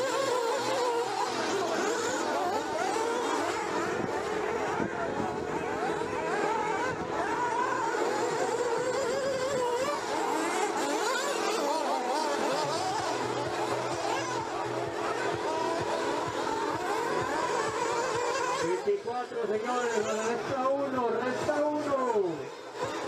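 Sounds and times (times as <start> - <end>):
rc buggy engines revving: 0.0 - 23.0.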